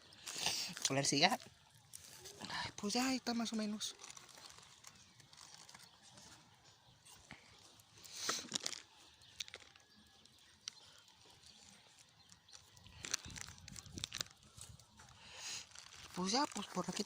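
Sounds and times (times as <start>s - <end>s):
sticks and leaves crunching: 0.0s - 17.0s.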